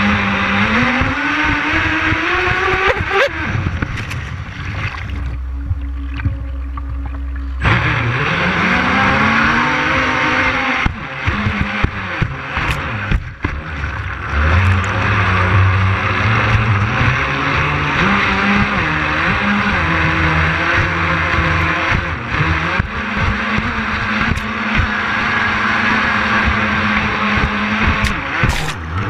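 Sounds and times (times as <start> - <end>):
electric boat motors whining: 0.0 - 4.4, 5.2 - 10.8, 11.4 - 29.0.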